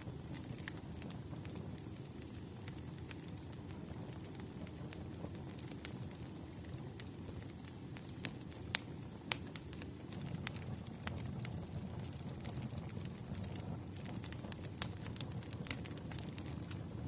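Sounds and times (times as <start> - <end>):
burning logs crackling and popping: 0.0 - 17.0
fire flames rumbling: 0.0 - 17.0.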